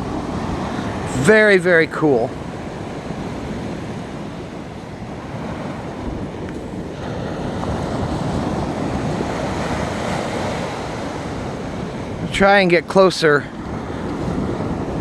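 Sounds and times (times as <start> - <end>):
surf washing onto sand: 0.0 - 15.0.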